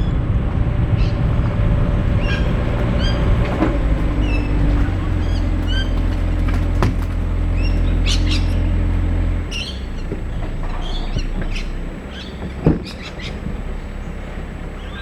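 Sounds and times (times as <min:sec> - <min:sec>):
low vehicle rumble: 0:00.0 - 0:15.0
small birds chirping: 0:00.0 - 0:15.0.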